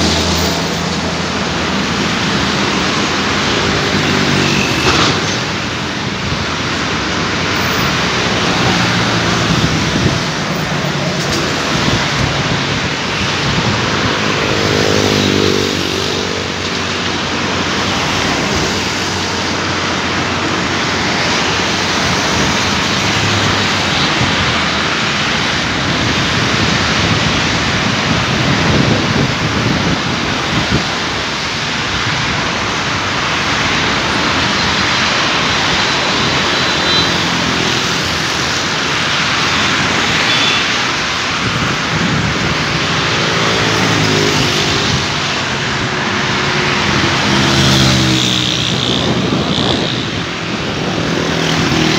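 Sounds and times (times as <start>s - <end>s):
road traffic hiss: 0.0s - 51.9s.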